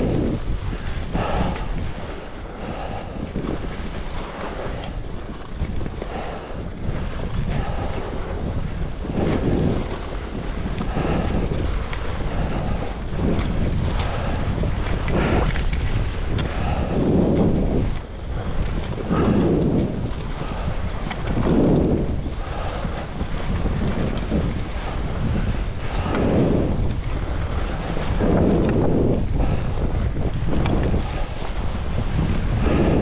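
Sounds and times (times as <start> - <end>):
skis carving through snow: 0.0 - 33.0
wind rushing over microphone: 0.0 - 33.0.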